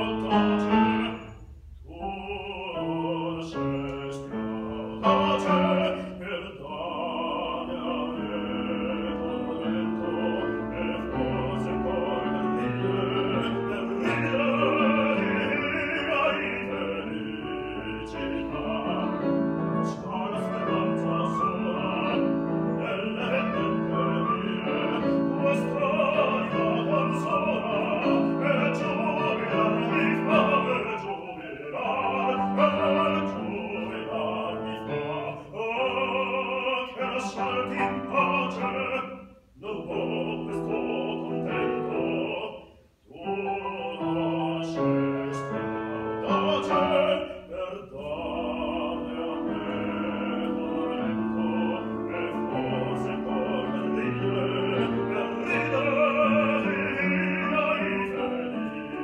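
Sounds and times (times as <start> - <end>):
baritone singing opera: 0.0 - 59.0
grand piano accompaniment: 0.0 - 59.0.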